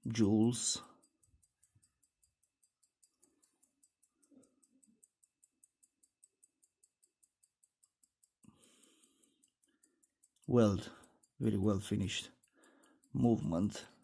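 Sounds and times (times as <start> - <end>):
pocket watch ticking: 0.0 - 14.0.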